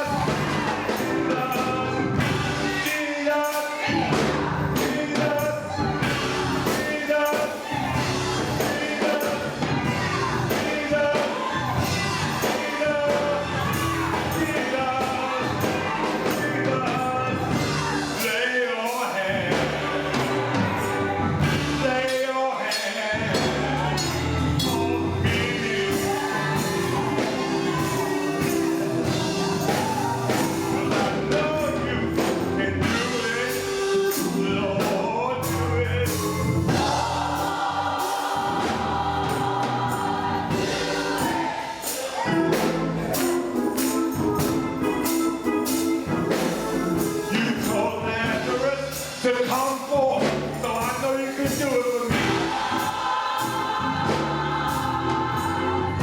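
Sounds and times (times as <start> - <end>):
drum and percussion hits: 0.0 - 3.1, 3.8 - 18.4, 19.0 - 56.0
band playing: 0.0 - 56.0
gospel choir singing: 0.0 - 56.0.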